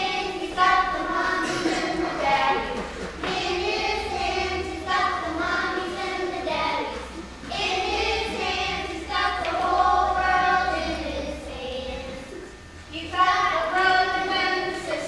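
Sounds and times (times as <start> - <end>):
children singing: 0.0 - 15.0.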